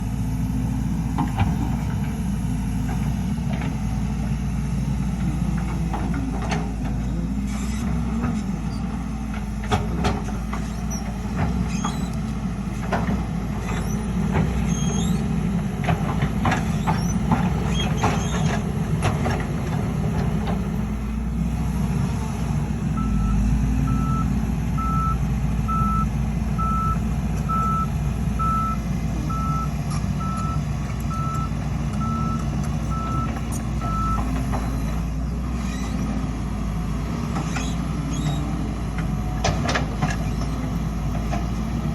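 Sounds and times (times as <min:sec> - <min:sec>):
diesel machinery running: 0:00.0 - 0:41.9.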